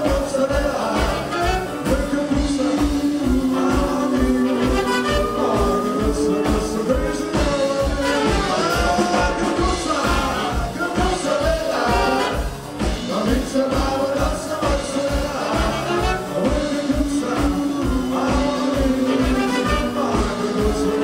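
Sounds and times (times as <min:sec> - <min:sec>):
electric guitar: 0:00.0 - 0:21.0
horns: 0:00.0 - 0:21.0
man singing: 0:00.0 - 0:21.0
steady beat: 0:00.0 - 0:21.0
upright double bass: 0:00.0 - 0:21.0.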